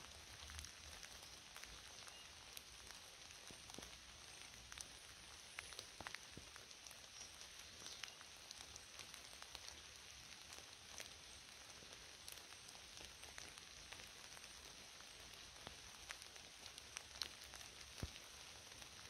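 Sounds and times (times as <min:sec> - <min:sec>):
rain hiss: 0:00.0 - 0:19.0
raindrops ticking: 0:00.0 - 0:19.0.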